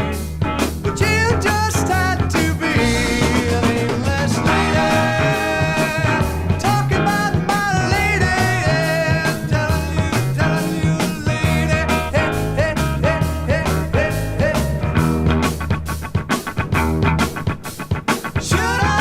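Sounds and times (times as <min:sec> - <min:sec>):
rock band from vinyl record: 0:00.0 - 0:19.0.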